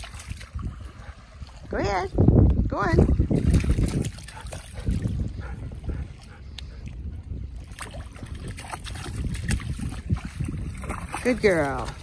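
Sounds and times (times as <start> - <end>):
sea water lapping against rocks: 0.0 - 2.0, 3.1 - 12.0
wind rumble on microphone: 0.0 - 12.0.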